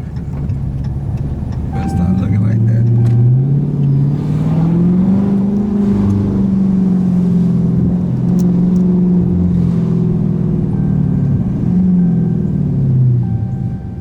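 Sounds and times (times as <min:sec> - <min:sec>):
car exhaust droning: 0:00.0 - 0:14.0.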